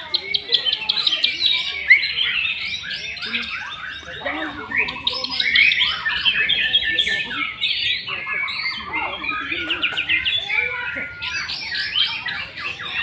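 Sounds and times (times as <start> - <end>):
songbird whistles and trills: 0.0 - 13.0.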